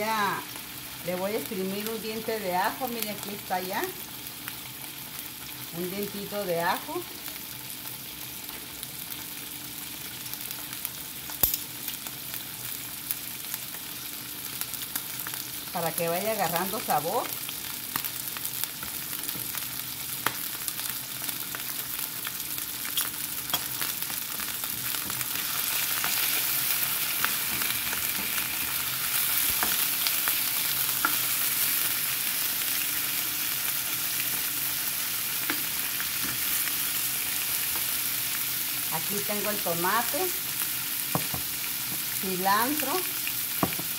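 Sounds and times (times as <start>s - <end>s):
liver sizzling in oil: 0.0s - 43.9s.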